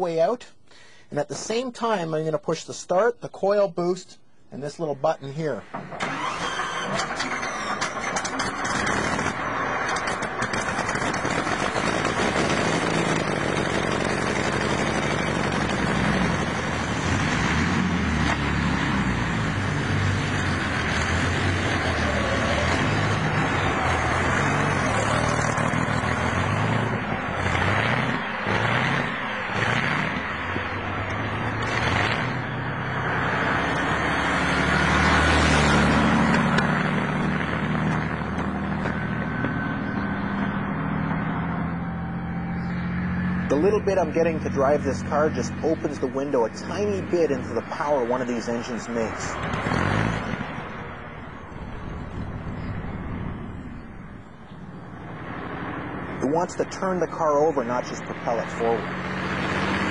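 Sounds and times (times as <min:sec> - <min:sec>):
aircraft engine running: 0:05.6 - 0:59.9.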